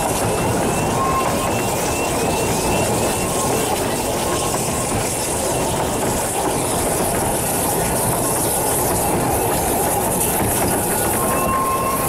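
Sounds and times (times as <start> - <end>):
high steam hiss: 0.0 - 12.0
train wheels rumbling on rails: 0.0 - 12.0.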